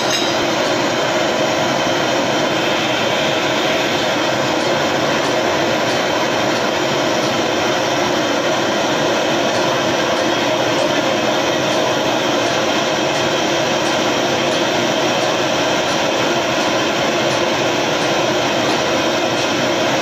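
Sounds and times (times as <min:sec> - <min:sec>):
gas burner flame rushing: 0:00.0 - 0:20.0.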